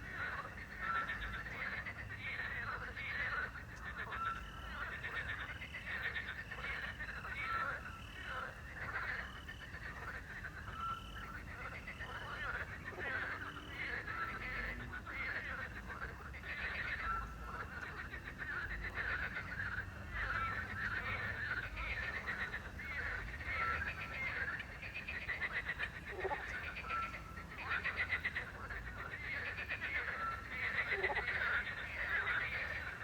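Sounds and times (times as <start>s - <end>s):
frogs croaking: 0.0s - 33.0s.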